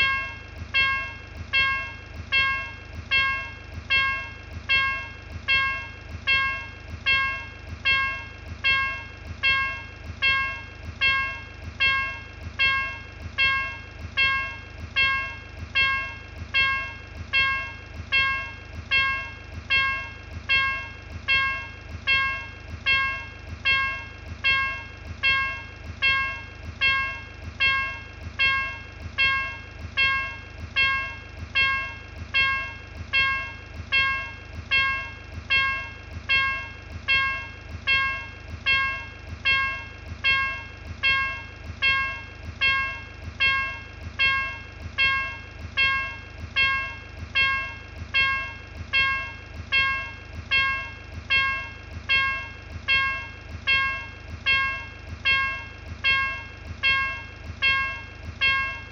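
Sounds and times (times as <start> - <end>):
level crossing bell ringing: 0.0 - 58.9
steady low hum: 0.0 - 58.9.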